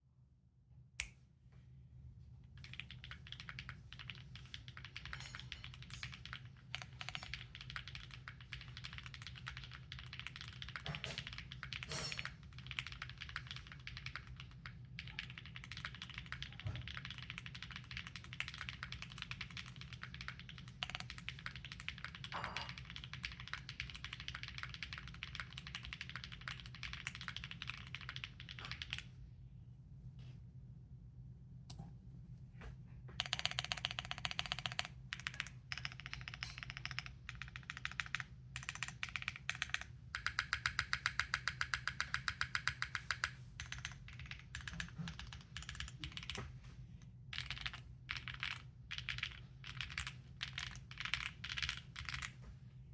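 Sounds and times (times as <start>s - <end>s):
fast mechanical keyboard typing: 2.6s - 29.1s, 33.2s - 46.5s, 47.3s - 52.4s.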